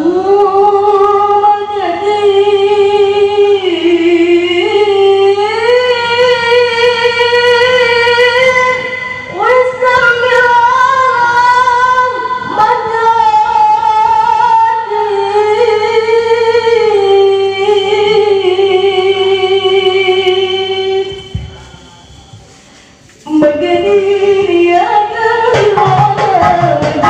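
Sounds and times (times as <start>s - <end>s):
person singing unaccompanied: 0.0s - 21.8s, 23.3s - 27.0s.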